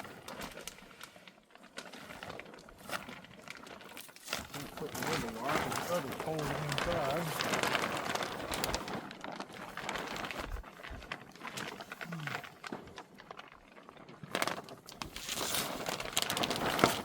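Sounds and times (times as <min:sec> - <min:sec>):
plastic film crinkling and rustling: 0:00.0 - 0:17.0
sharp crackles: 0:00.0 - 0:17.0.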